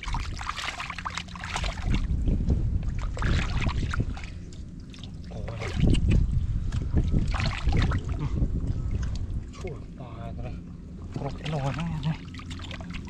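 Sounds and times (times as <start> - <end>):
muddy water splashing: 0.0 - 10.0, 10.8 - 13.0
wind rumbling on microphone: 0.0 - 13.0.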